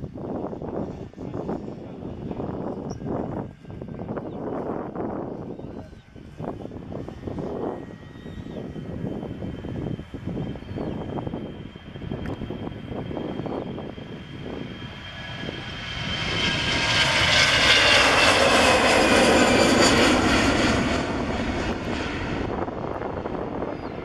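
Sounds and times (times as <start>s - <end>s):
jet engines passing by: 0.0s - 24.0s.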